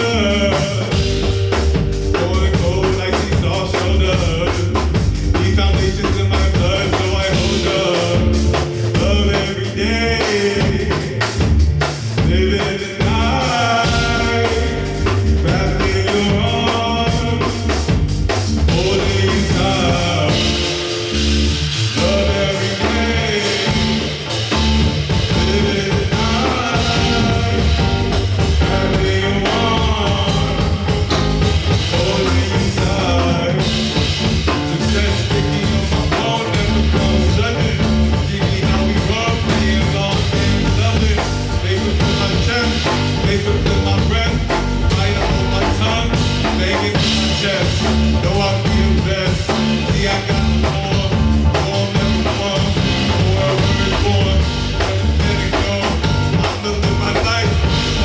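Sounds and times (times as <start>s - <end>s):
live band playing: 0.0s - 58.0s
person singing: 0.0s - 58.0s.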